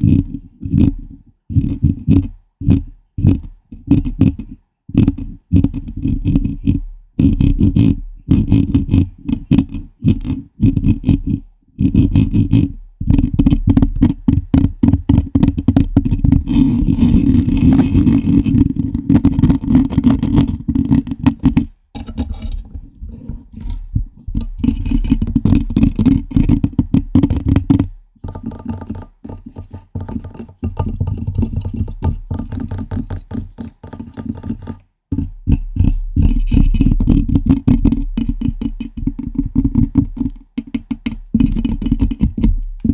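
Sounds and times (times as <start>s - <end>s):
fingers scratching a microphone: 0.0s - 42.9s.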